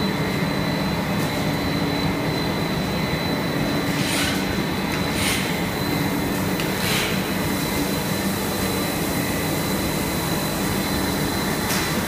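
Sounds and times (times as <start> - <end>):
machine drone with high whine: 0.0 - 12.0.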